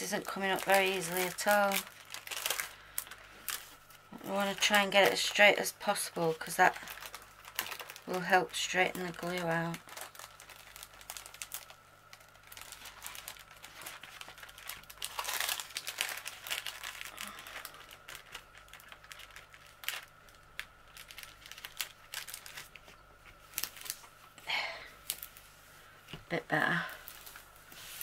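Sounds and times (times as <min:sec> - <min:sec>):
plastic film crinkling: 0:00.0 - 0:24.4, 0:25.0 - 0:28.0.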